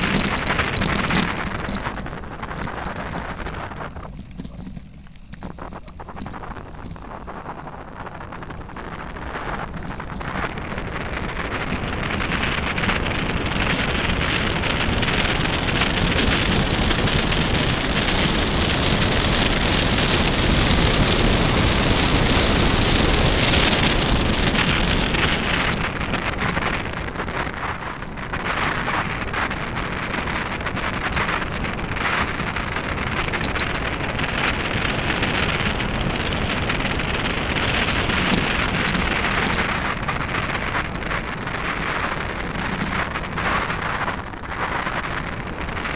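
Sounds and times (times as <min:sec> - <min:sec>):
bike tyres crunching on gravel: 0:00.0 - 0:45.9
wind buffeting microphone: 0:00.0 - 0:45.9.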